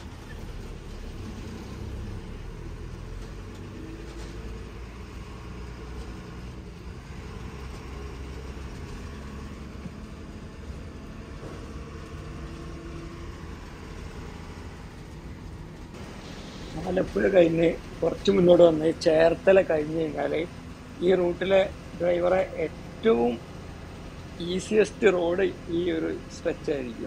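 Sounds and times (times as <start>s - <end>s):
bus engine and tyre rumble: 0.0s - 27.0s.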